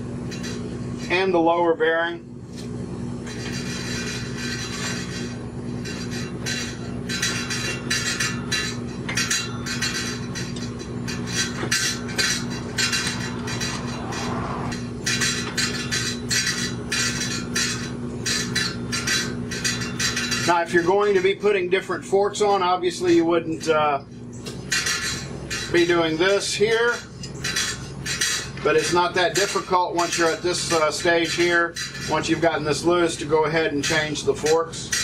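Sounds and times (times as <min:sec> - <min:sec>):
steady low hum: 0:00.0 - 0:35.0
metal parts clinking and scraping: 0:00.3 - 0:01.3, 0:02.6 - 0:35.0.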